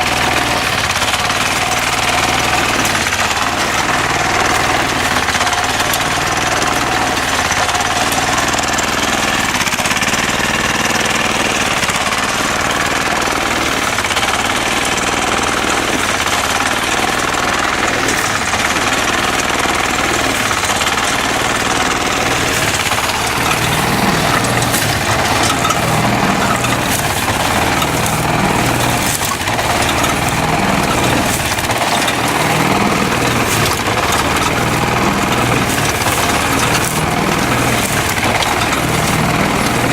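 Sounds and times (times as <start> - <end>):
engine running: 0.0 - 39.9
rapid mechanical clatter: 0.0 - 39.9.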